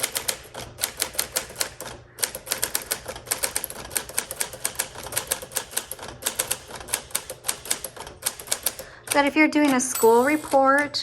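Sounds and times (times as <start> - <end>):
manual typewriter keys striking: 0.0 - 11.0.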